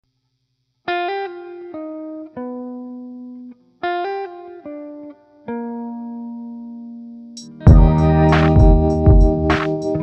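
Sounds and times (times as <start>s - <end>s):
guitar plucked notes: 0.9s - 10.0s.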